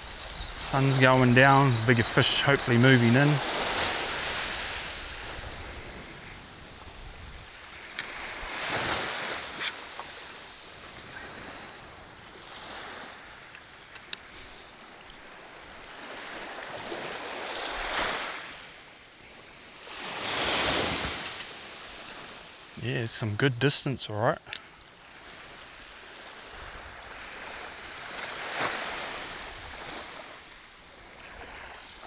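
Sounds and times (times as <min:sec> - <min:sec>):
small waves washing on sand: 0:00.0 - 0:32.0.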